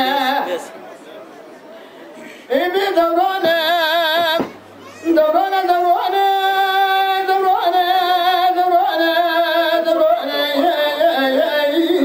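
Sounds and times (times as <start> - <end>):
man singing unaccompanied: 0.0 - 0.8, 2.5 - 12.0.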